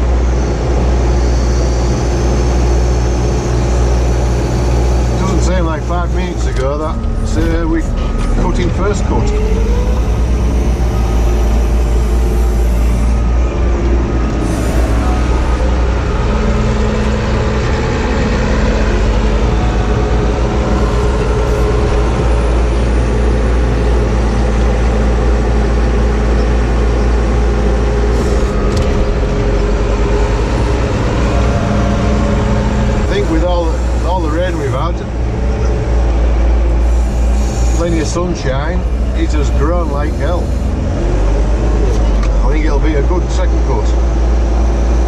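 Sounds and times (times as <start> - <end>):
diesel engine rumbling: 0.0 - 45.0.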